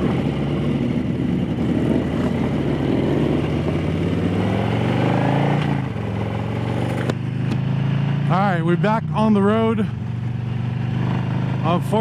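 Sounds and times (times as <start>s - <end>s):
motorcycle accelerating: 0.0s - 12.0s.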